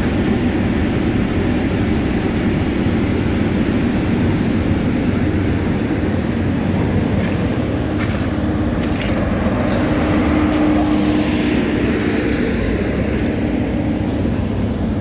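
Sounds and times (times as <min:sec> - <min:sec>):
diesel paving machinery running: 0:00.0 - 0:15.0.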